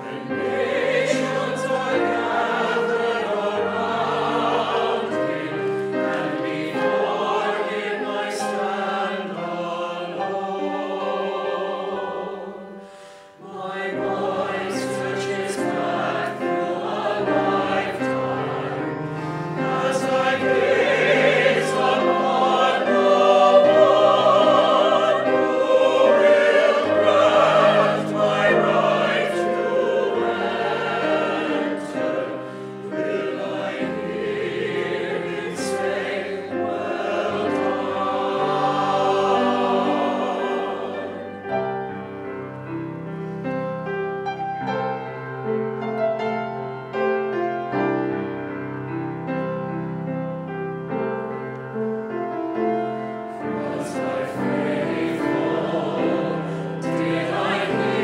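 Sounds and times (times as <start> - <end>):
mixed choir singing: 0.0 - 43.8, 52.5 - 58.0.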